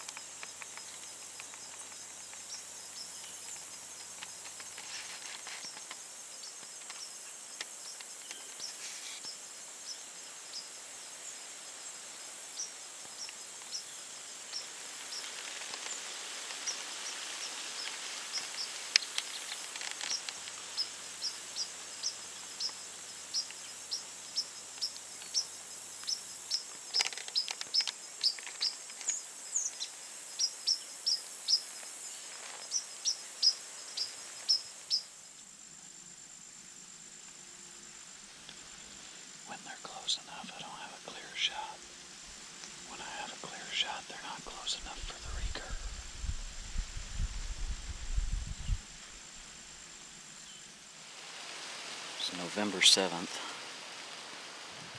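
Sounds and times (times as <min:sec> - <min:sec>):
high insect buzz: 0:00.0 - 0:54.9.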